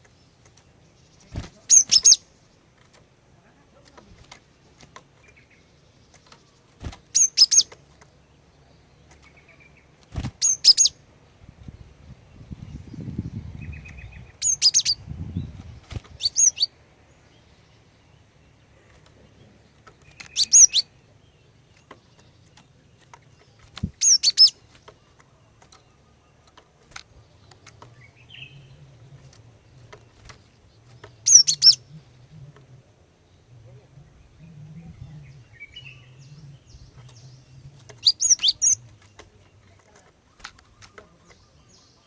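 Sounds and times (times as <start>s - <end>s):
bird chirping: 0.0s - 2.8s, 3.4s - 42.0s.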